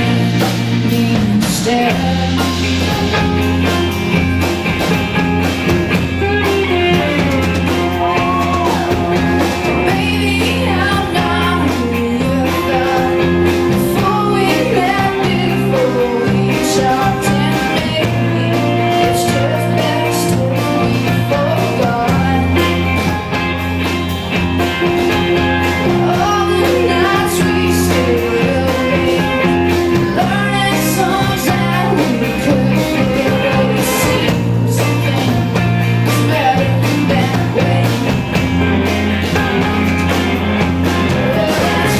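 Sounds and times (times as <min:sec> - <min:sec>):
lead vocalist singing: 0:00.0 - 0:03.4, 0:06.1 - 0:23.5, 0:25.4 - 0:41.9
live rock band playing: 0:00.0 - 0:41.9.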